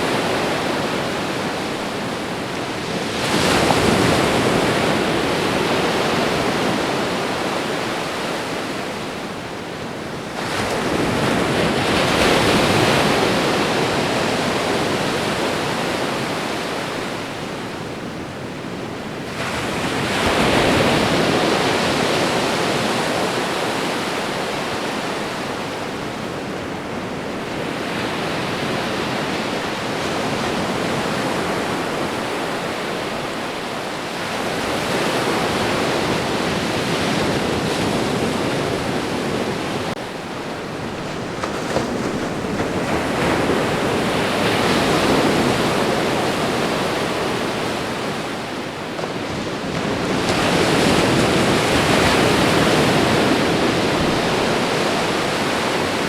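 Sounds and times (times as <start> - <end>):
large waves surging: 0.0 - 56.0
ocean waves washing ashore: 0.0 - 56.0.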